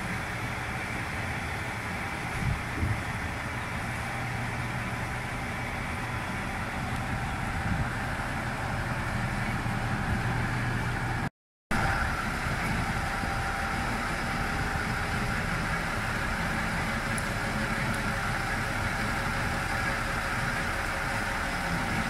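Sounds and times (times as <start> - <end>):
diesel railcar idling: 0.0 - 22.0.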